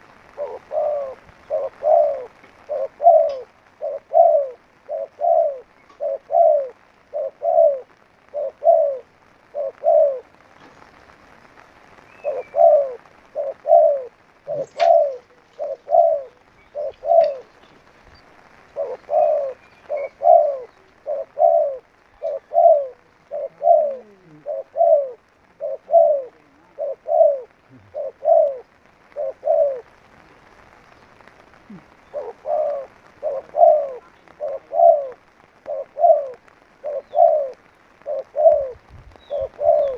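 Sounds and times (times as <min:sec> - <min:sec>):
dove cooing: 0:00.0 - 0:11.1, 0:12.0 - 0:39.9.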